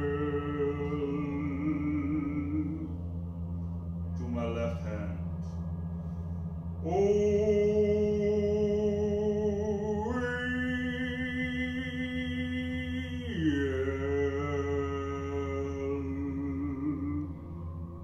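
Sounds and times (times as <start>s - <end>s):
low ambient music drone: 0.0s - 18.0s.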